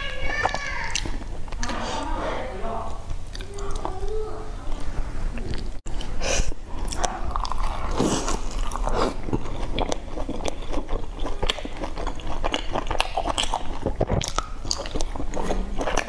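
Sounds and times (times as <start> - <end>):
chewing soft food: 0.2 - 1.8, 3.0 - 16.0.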